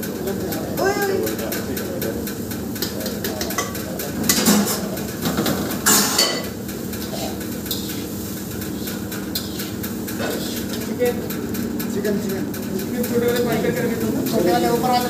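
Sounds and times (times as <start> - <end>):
metal clanking against a wok: 0.0 - 15.0.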